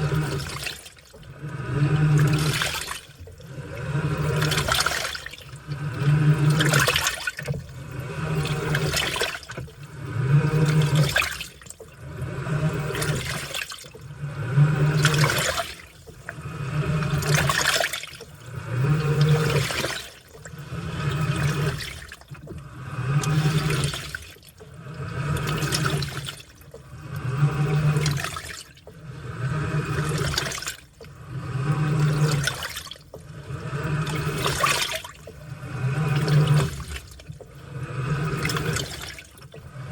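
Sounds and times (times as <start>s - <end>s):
washing machine motor hum: 0.0s - 39.9s
washing machine water sloshing: 0.0s - 39.9s.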